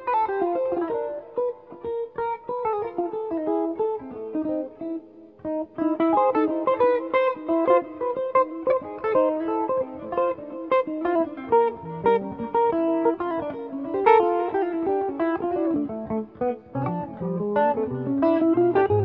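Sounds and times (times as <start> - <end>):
jazz guitar duet: 0.0 - 19.0.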